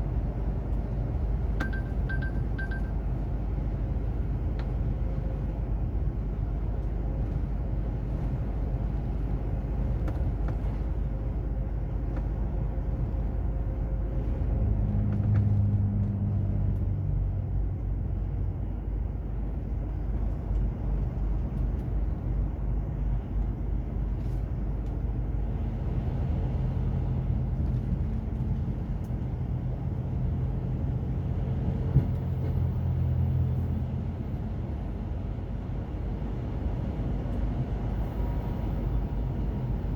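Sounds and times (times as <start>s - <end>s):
road rumble: 0.0s - 39.9s
truck diesel engine: 0.0s - 39.9s.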